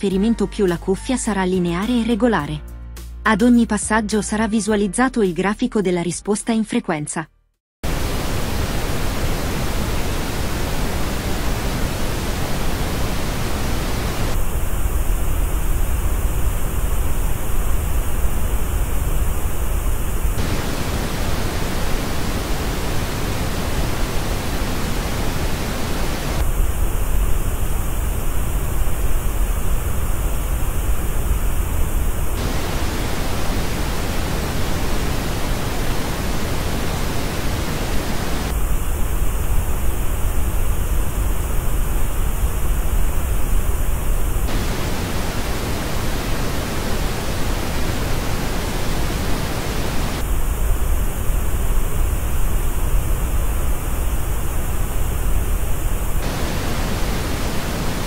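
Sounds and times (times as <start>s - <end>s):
pink noise hiss: 7.8s - 58.0s.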